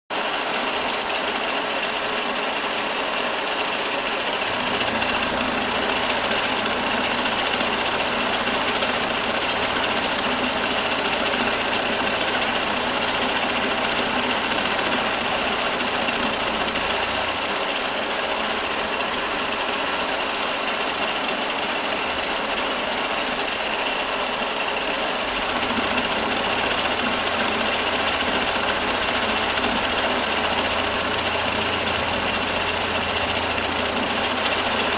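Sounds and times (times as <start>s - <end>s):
milling machine milling metal: 0.2s - 34.9s.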